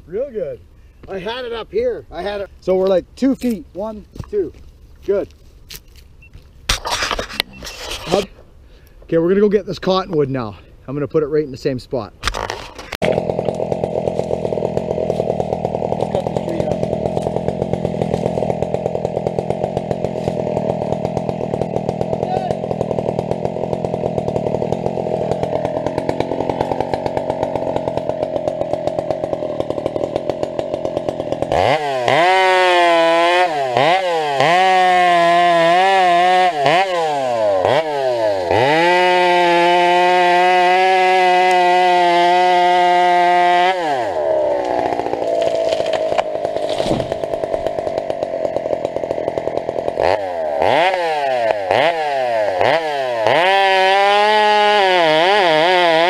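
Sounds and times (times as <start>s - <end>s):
chainsaw cutting wood: 5.8s - 8.3s, 12.3s - 56.0s.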